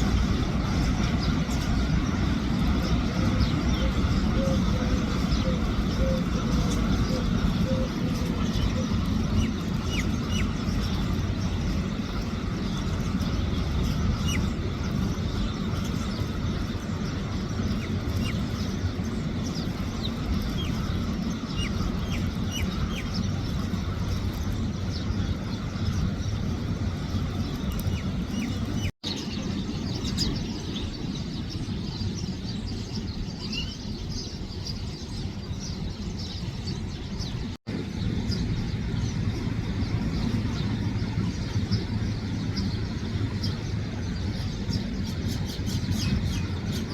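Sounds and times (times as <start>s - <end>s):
road traffic rumble: 0.0s - 46.9s
sparrows chirping: 0.0s - 46.9s.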